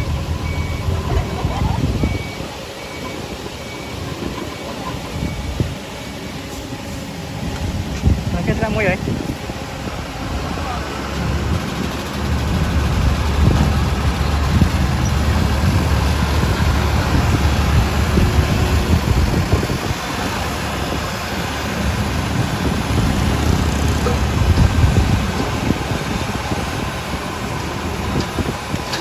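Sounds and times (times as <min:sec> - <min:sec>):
heavy diesel engine droning: 0:00.0 - 0:29.0.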